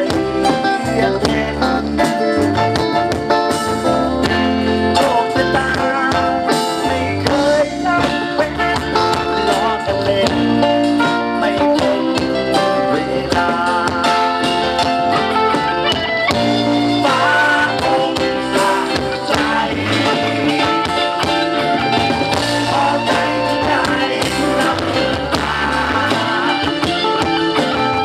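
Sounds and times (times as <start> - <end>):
drum beat: 0.0 - 28.0
electric guitar: 0.0 - 28.0.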